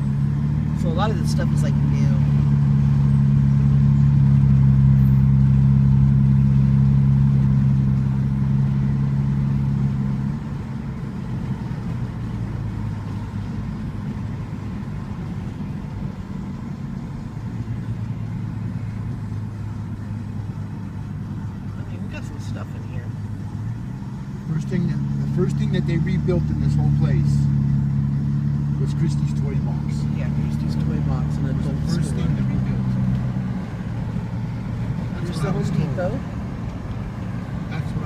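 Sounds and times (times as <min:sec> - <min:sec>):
car engine and road noise: 0:00.0 - 0:38.0.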